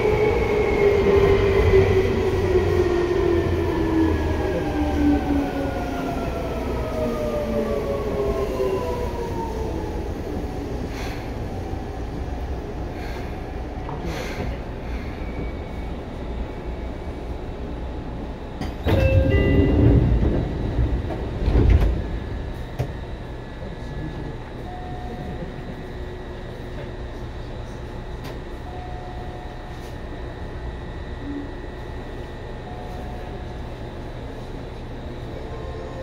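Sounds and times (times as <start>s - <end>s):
train running rumble: 0.0s - 36.0s.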